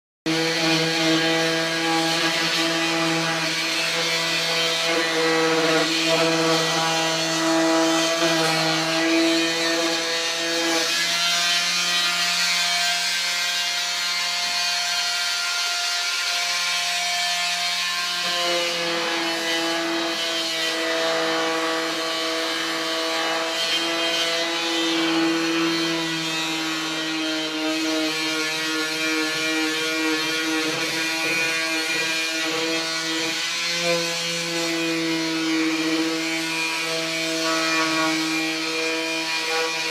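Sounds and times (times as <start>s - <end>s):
power tool motor humming: 0.3s - 39.9s.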